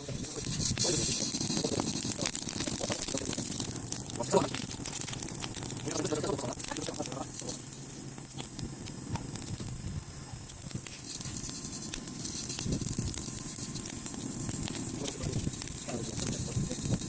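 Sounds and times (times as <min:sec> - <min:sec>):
campfire crackling: 0:00.0 - 0:17.0
steady hiss: 0:00.0 - 0:17.0.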